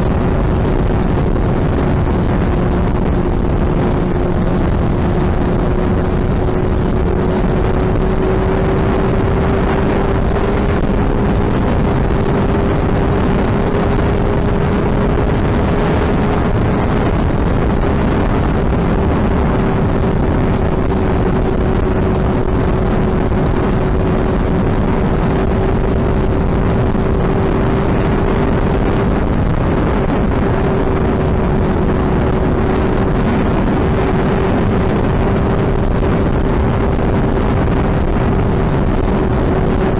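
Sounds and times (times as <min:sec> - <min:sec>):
motorcycle engine droning: 0:00.0 - 0:39.9
wind rushing over microphone: 0:00.0 - 0:39.9.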